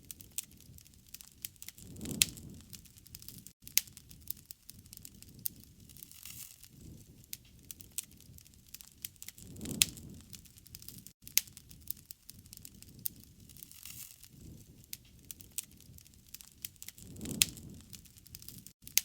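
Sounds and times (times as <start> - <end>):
campfire crackling and popping: 0.0 - 19.0
flames rushing: 0.2 - 3.5, 4.1 - 18.8.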